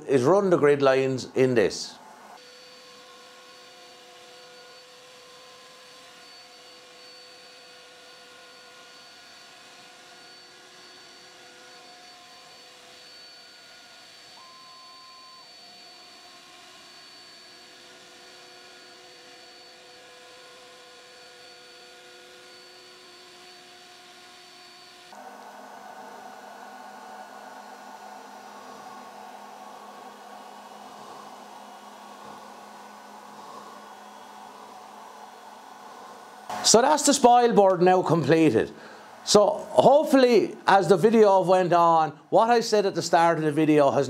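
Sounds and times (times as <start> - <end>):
dust extraction running: 0.0 - 44.0
router spindle whining: 2.0 - 43.8.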